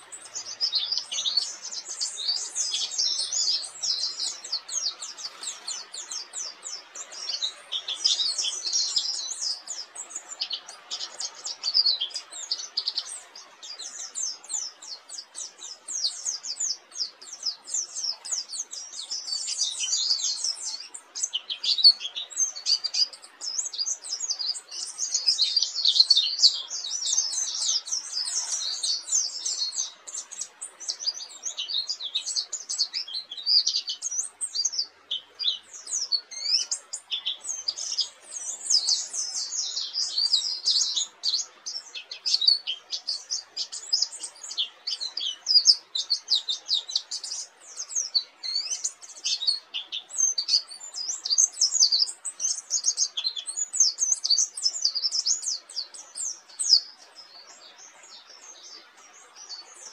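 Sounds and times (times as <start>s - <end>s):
bird twittering song: 0.0s - 59.9s.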